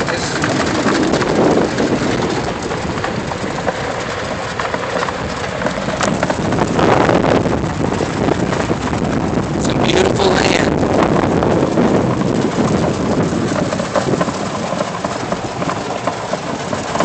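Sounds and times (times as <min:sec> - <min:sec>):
tyres crunching over gravel: 0:00.0 - 0:17.0
wind on microphone: 0:00.0 - 0:17.0.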